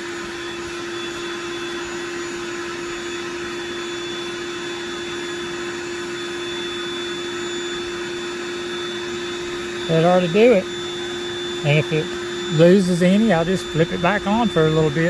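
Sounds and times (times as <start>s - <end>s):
electric air pump running: 0.0s - 15.0s.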